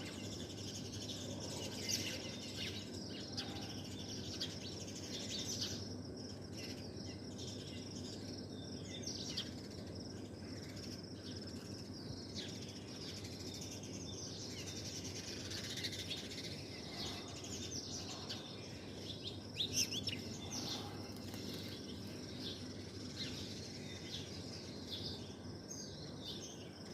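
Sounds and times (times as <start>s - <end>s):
small birds chirping: 0.0s - 26.9s
steady background hiss: 0.0s - 26.9s.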